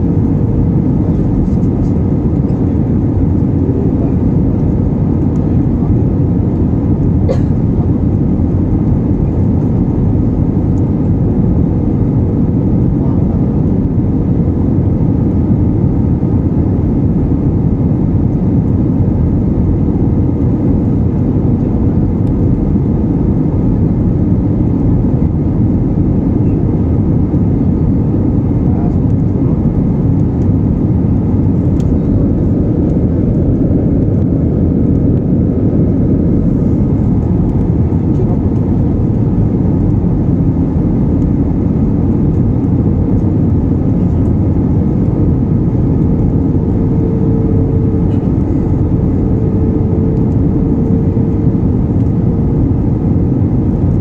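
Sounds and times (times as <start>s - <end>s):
faint steady hum: 0.0s - 54.0s
jet airliner cabin noise: 0.0s - 54.0s.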